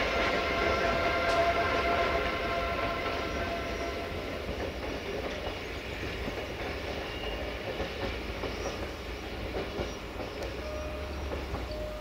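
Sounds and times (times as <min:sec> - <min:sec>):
locomotive engine rumble: 0:00.0 - 0:12.0.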